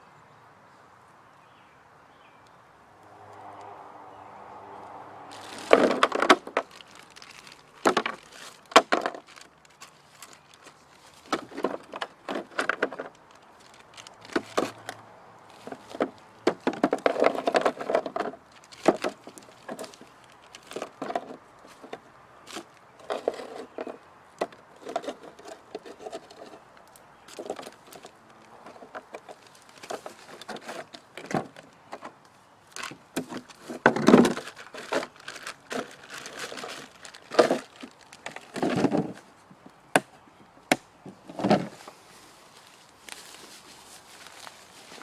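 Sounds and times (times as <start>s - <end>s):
dry twigs cracking and snapping: 4.4s - 41.2s, 41.8s - 45.0s.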